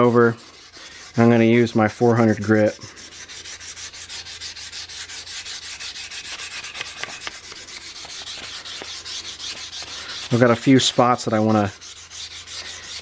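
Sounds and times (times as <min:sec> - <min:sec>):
sandpaper rubbing on wood: 0:00.0 - 0:13.0.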